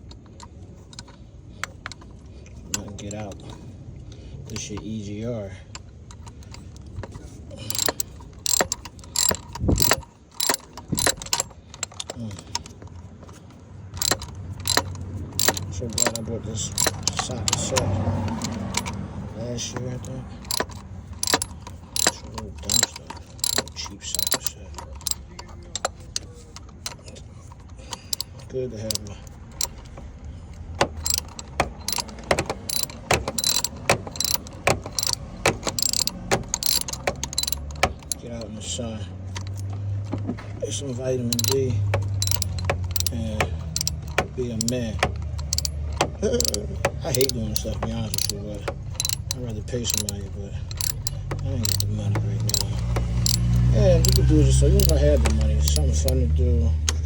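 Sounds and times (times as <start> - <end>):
ratchet wrench clicking: 0.0 - 3.6, 4.5 - 57.0.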